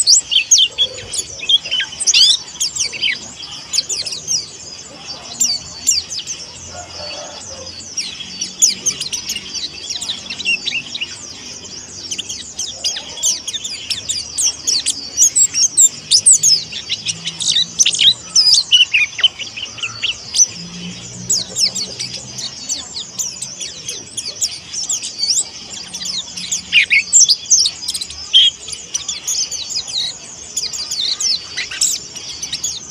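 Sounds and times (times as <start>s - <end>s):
small bird chirping and twittering: 0.0s - 32.9s.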